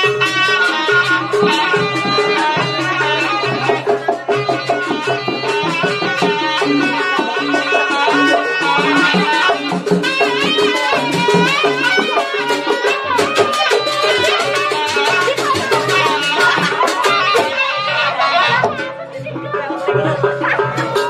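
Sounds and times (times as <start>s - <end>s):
reed trumpet melody: 0.0s - 19.0s
hand drums beat: 0.0s - 21.0s.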